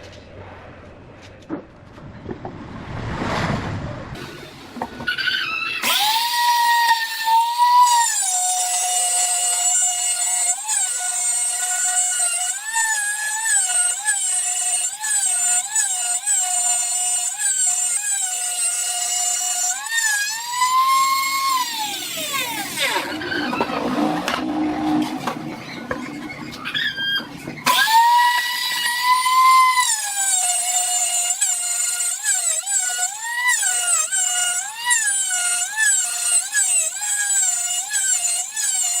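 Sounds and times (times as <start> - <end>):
angle grinder whining: 4.2 - 39.0.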